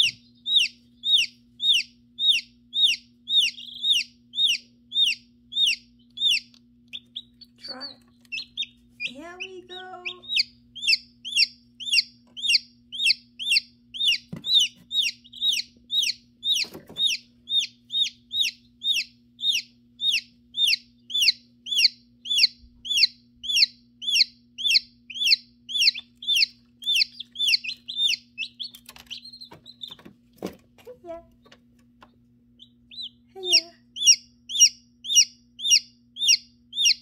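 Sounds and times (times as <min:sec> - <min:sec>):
chick peeping: 0:00.0 - 0:31.3, 0:32.1 - 0:37.0
steady low hum: 0:00.0 - 0:37.0.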